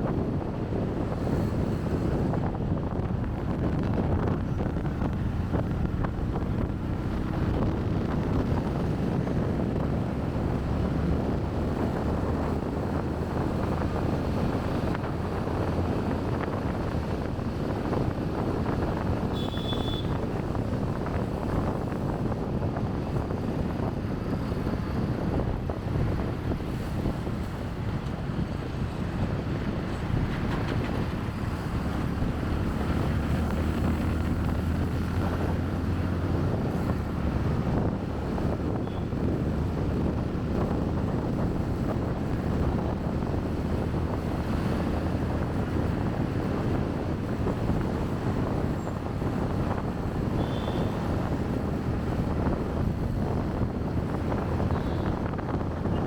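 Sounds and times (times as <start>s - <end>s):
motorbike engine drone: 0.0s - 56.0s
traffic noise: 0.0s - 56.0s
wind rushing over microphone: 0.0s - 56.0s.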